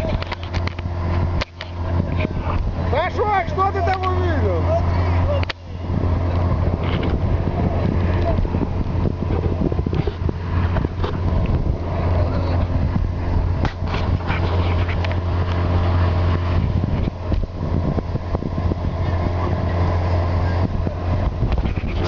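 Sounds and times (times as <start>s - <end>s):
motorboat engine humming: 0.0s - 22.0s
water noise: 0.0s - 22.0s
wind: 0.0s - 22.0s.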